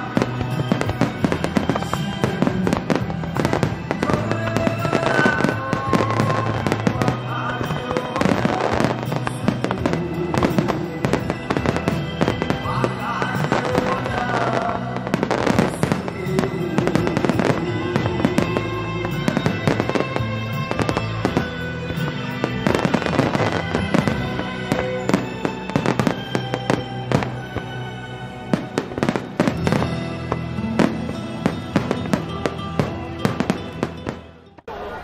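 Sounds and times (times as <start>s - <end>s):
fireworks bursting and crackling: 0.0s - 35.0s
music playing: 0.0s - 35.0s.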